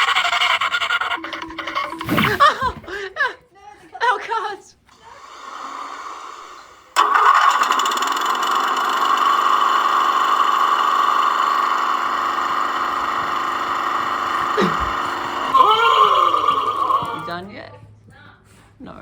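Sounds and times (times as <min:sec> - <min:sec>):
motor whining: 0:00.0 - 0:03.0, 0:04.9 - 0:17.4.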